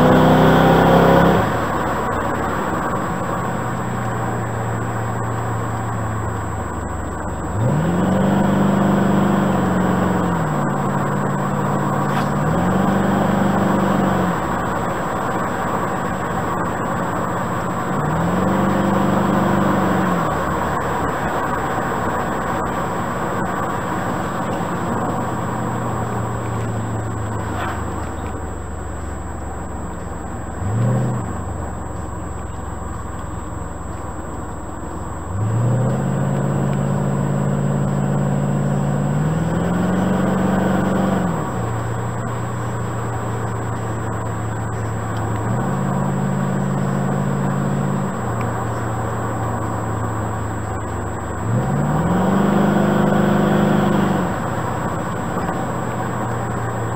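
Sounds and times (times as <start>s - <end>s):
car engine: 0.0s - 56.9s.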